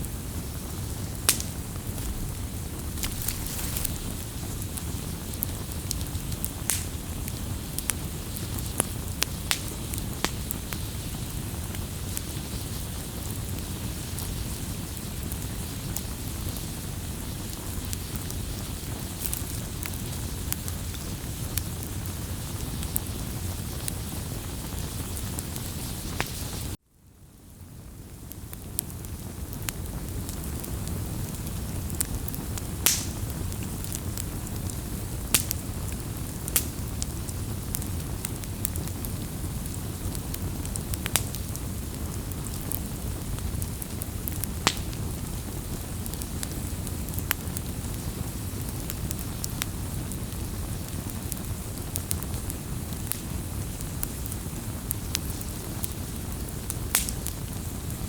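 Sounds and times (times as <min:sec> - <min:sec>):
burning wood crackling pops: 0:00.0 - 0:26.8, 0:27.7 - 0:58.0
low rush of flame: 0:00.0 - 0:26.8, 0:27.7 - 0:58.0.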